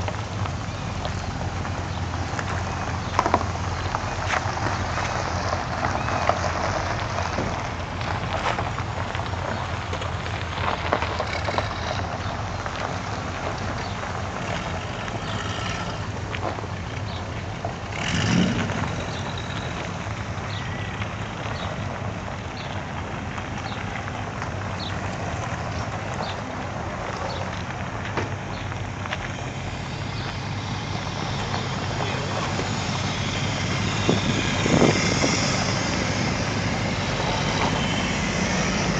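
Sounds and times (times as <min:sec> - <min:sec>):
car engines idling and pulling away: 0:00.0 - 0:38.9.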